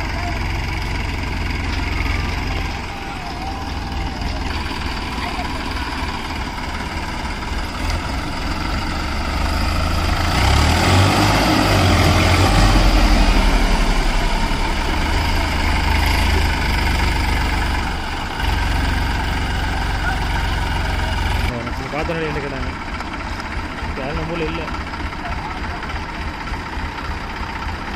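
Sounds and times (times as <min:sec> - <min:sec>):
tractor diesel engines under load: 0:00.0 - 0:27.9.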